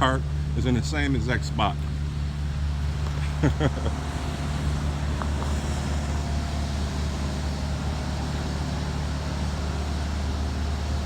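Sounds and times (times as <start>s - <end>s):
constant noise: 0.0s - 11.0s
low mechanical hum: 0.0s - 11.0s.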